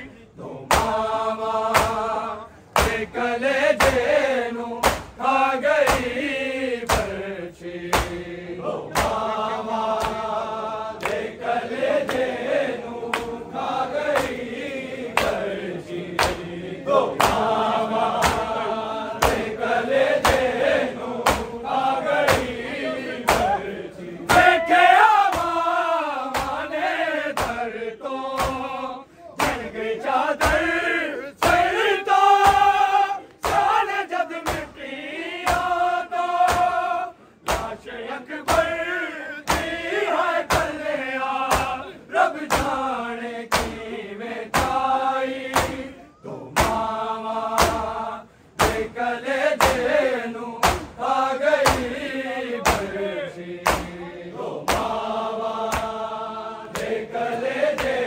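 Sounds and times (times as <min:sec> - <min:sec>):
men chanting together: 0:00.0 - 0:58.0
sharp rhythmic slaps: 0:00.0 - 0:58.0.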